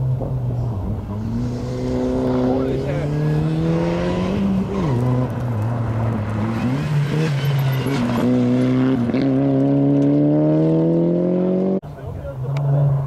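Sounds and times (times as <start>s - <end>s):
rally car engine revving: 0.0s - 11.8s.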